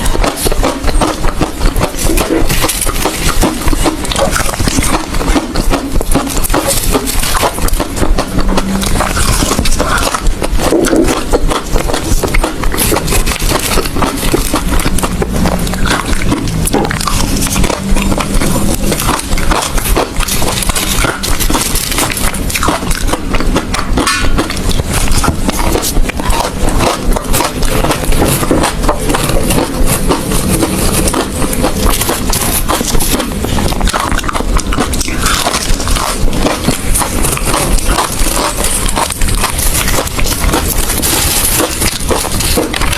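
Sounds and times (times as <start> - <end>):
ice crunching between teeth: 0.0 - 42.9.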